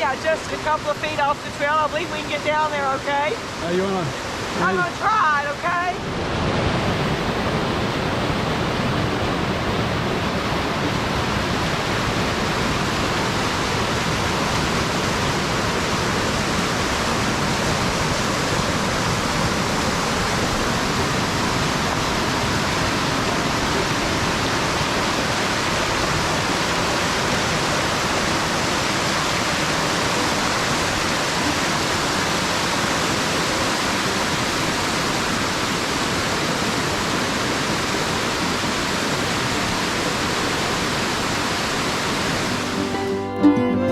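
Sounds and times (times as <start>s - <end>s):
creek rushing over rocks: 0.0s - 43.2s.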